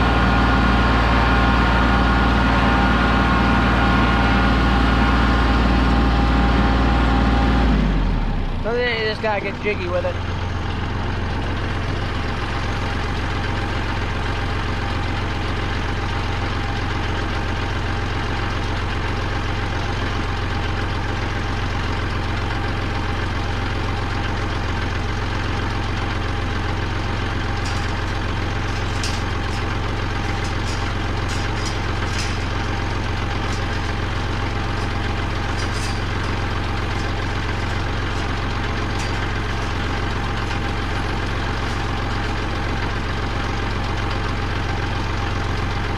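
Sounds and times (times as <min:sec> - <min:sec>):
diesel tractor engine idling: 0:00.0 - 0:45.9.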